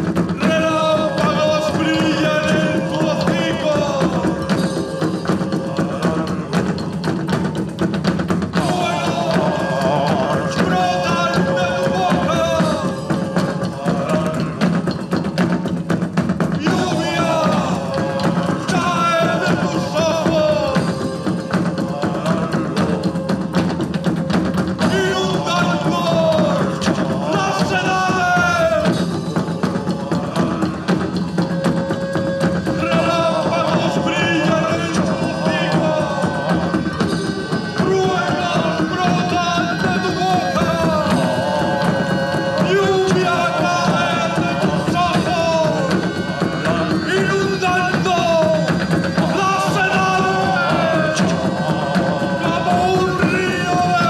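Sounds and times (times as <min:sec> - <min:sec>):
folk band playing: 0:00.0 - 0:54.0.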